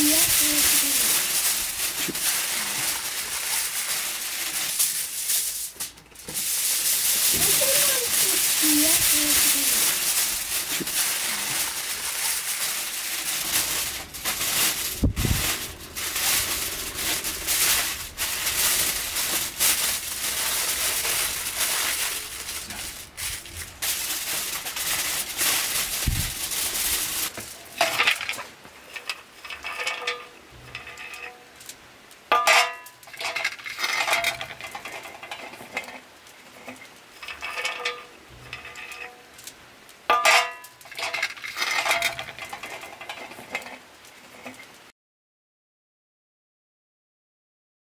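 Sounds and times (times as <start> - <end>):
aluminium foil crinkling: 0.0 - 44.8.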